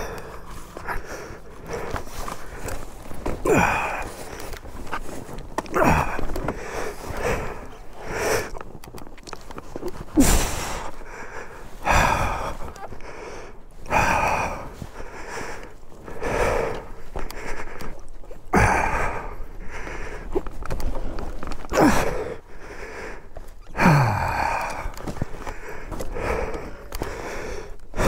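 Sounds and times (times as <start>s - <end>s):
man breathing hard: 0.0s - 28.0s.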